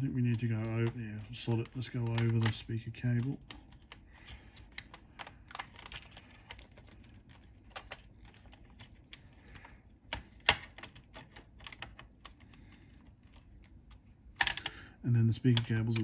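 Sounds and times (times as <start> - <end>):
small clicks and taps: 0.2 - 14.8.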